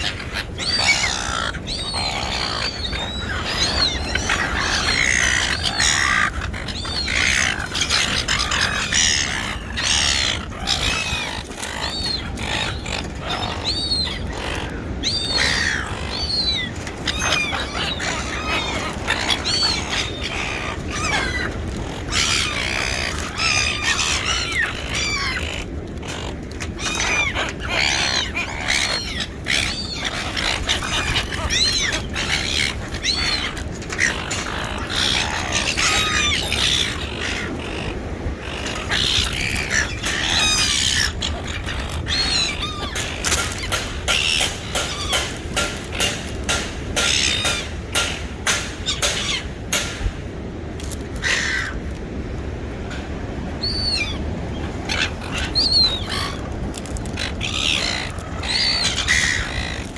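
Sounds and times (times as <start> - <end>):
seagulls calling: 0.0 - 59.9.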